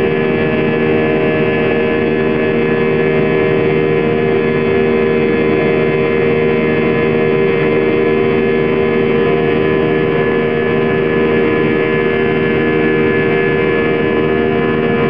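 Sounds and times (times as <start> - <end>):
jet engine cabin noise: 0.0 - 15.0
low humming tones: 0.0 - 15.0.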